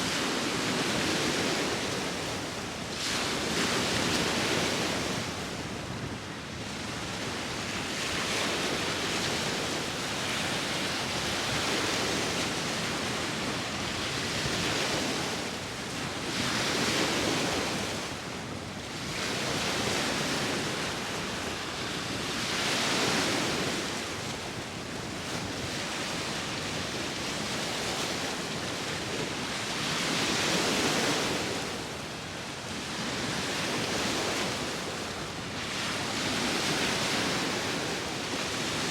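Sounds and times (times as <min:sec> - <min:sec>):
sea waves washing ashore: 0:00.0 - 0:38.9
wind: 0:00.0 - 0:38.9.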